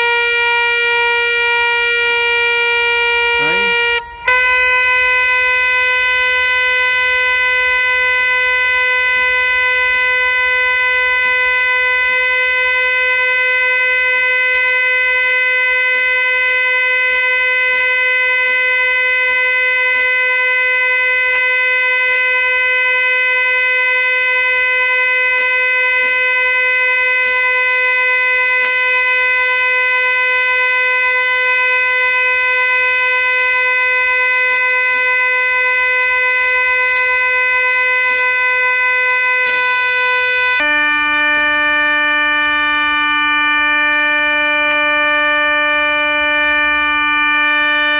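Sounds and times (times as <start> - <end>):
organ reed pipe held note: 0.0 - 47.9.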